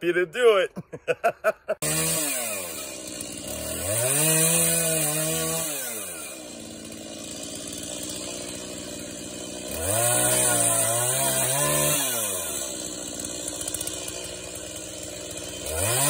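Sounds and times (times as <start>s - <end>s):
power cutter engine revving: 1.8s - 16.0s.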